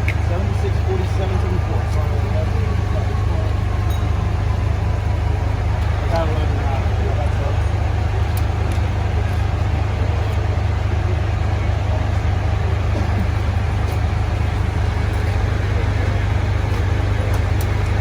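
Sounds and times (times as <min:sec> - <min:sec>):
large engine idling: 0:00.0 - 0:18.0.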